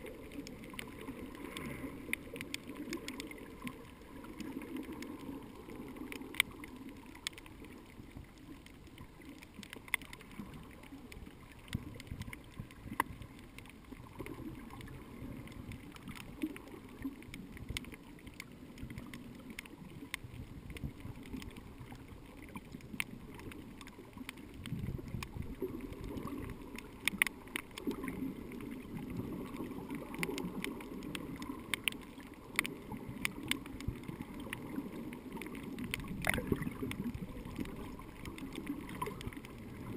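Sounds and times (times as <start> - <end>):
underwater water rush: 0.0 - 39.9.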